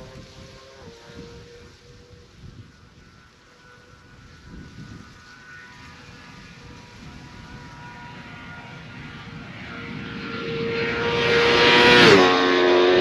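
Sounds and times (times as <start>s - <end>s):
motorcycle engine passing by: 0.0s - 13.0s.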